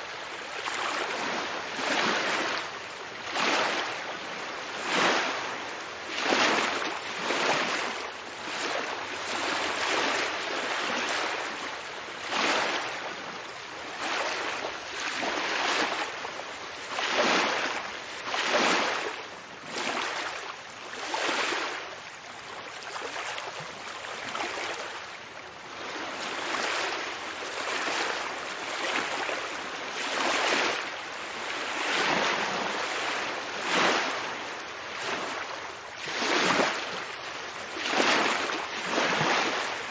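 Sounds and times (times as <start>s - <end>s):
ocean waves washing and lapping: 0.0s - 39.9s.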